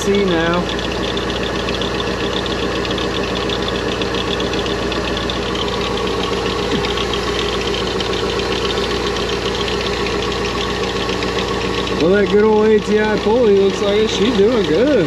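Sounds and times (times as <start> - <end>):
belt ticking: 0.0 - 15.0
car engine idling: 0.0 - 15.0.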